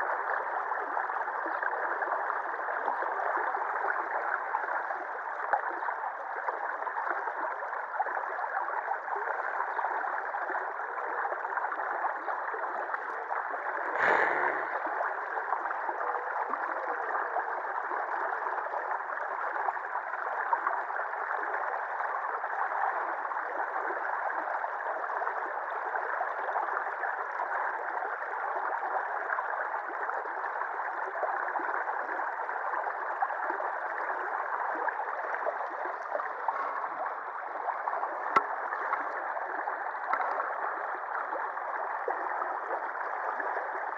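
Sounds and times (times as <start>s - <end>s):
river water gurgling: 0.0s - 43.9s.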